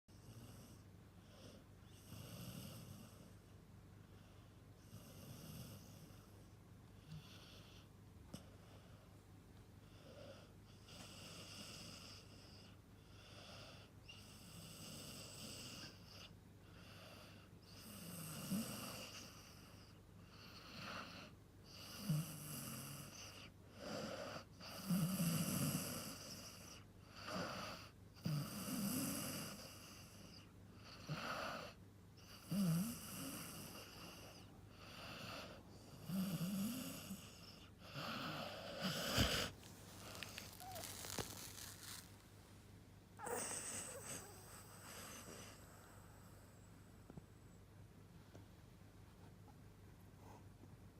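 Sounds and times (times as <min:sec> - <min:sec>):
puppy snoring: 0:00.1 - 0:03.4, 0:04.2 - 0:09.0, 0:09.8 - 0:42.2, 0:43.2 - 0:47.1.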